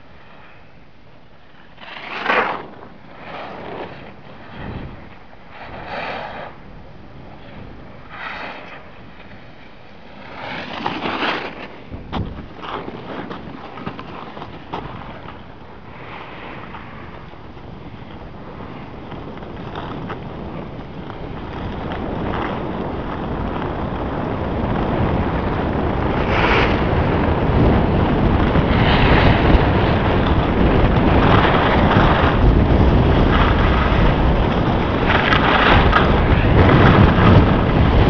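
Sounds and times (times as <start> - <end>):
ski edges scraping snow: 1.4 - 6.7, 7.3 - 23.5, 26.0 - 38.0
wind on microphone: 1.7 - 38.0.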